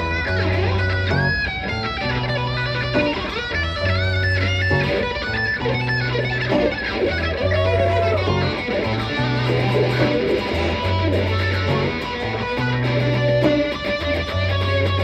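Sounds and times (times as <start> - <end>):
electric guitar lead with bent notes: 0.0 - 15.0
low held bass notes: 0.0 - 15.0.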